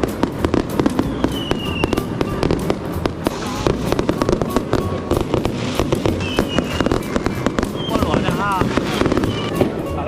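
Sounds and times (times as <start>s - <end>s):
faint music: 0.0s - 10.0s.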